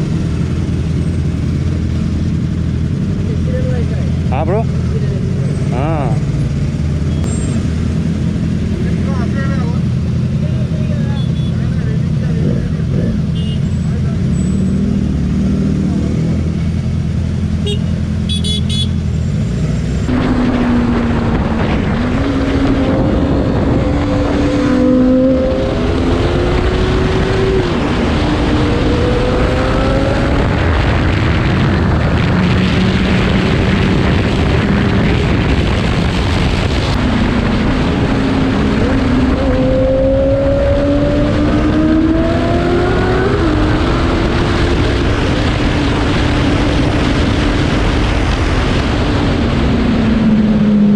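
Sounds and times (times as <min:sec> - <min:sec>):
motorcycle engine revving: 0:00.0 - 0:50.9
road and wind noise: 0:00.0 - 0:50.9.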